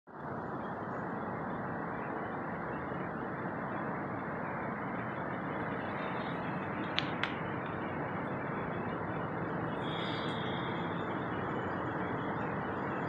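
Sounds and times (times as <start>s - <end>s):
steady rushing noise: 0.1s - 13.0s.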